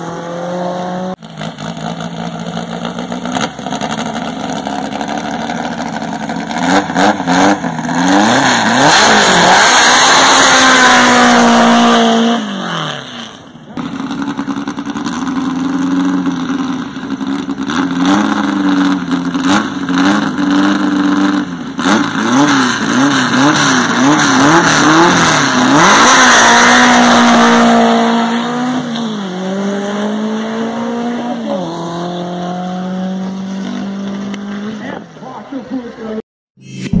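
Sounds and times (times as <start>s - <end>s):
car engine revving and accelerating: 0.0s - 35.8s.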